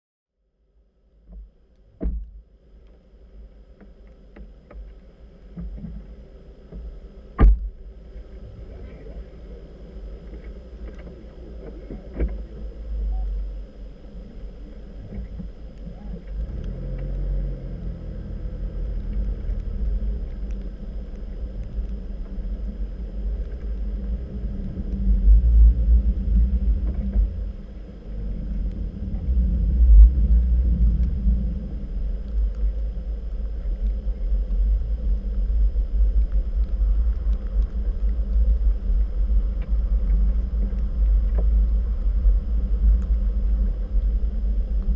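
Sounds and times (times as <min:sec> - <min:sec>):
car interior rumble: 0:00.8 - 0:44.9.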